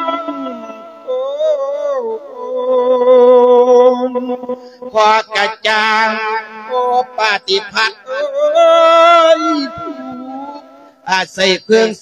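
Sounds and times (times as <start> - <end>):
monk chanting: 0.0 - 12.0.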